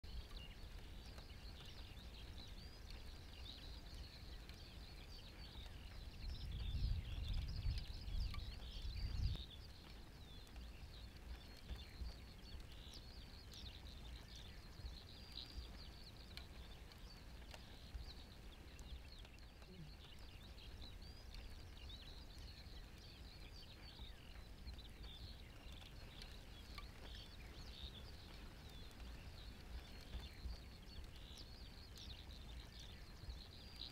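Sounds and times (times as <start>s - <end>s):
distant songbirds chirping: 0.0s - 33.9s.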